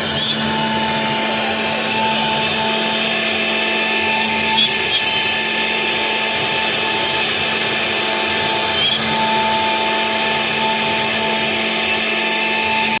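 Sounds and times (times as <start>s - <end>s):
cnc router motor whine: 0.0s - 13.0s.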